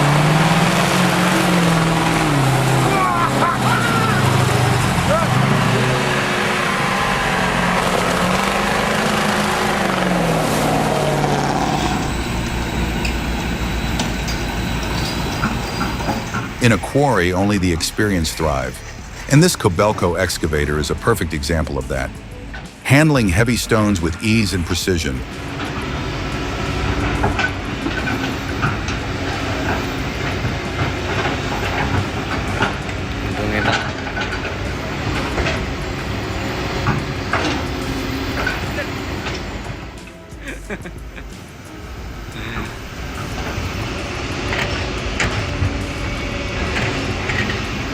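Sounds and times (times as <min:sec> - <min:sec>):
large engine running: 0:00.0 - 0:47.9.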